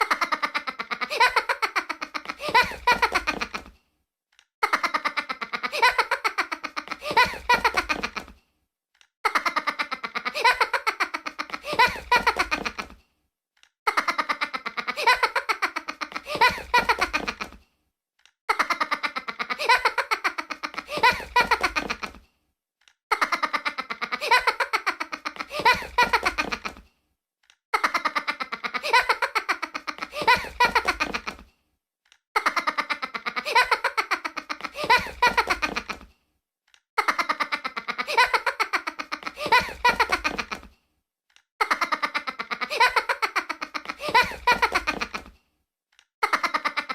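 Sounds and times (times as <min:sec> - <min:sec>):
high-pitched giggling laughter: 0:00.0 - 0:03.7, 0:04.6 - 0:08.4, 0:09.2 - 0:13.0, 0:13.9 - 0:17.6, 0:18.5 - 0:22.2, 0:23.1 - 0:26.8, 0:27.8 - 0:31.4, 0:32.4 - 0:36.1, 0:37.0 - 0:40.7, 0:41.6 - 0:45.3, 0:46.2 - 0:46.9.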